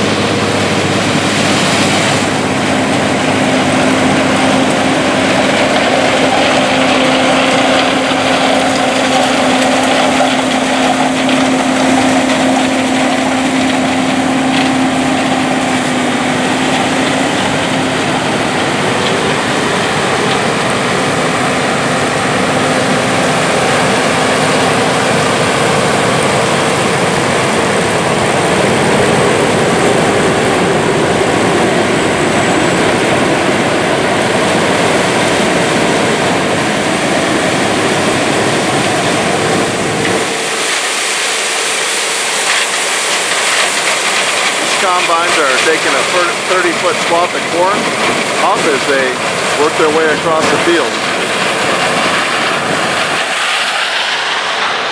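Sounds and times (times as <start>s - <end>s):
combine harvester engine drone: 0.0s - 54.9s
steady hum: 0.0s - 54.9s.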